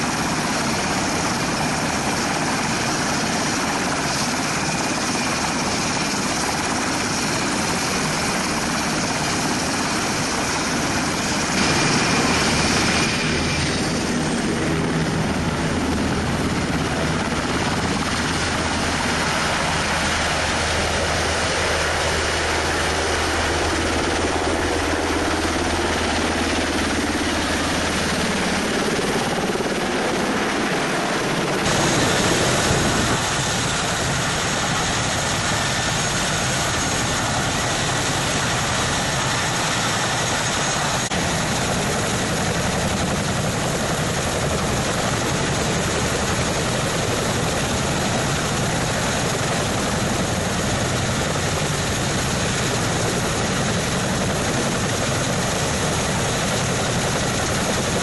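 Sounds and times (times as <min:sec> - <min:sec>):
helicopter hovering: 0:00.0 - 0:58.0
helicopter rotors and turbines running: 0:00.0 - 0:58.0.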